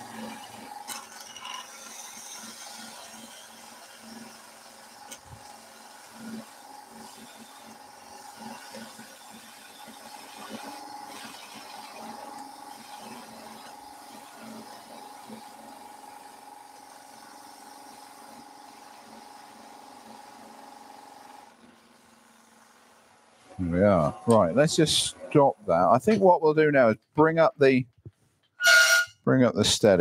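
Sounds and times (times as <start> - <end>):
lathe humming: 0.0 - 25.7.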